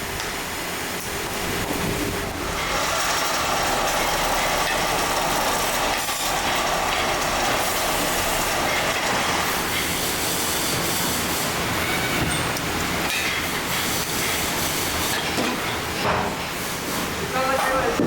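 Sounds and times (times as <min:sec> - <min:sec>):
factory machinery rumble and clatter: 0:00.0 - 0:18.0.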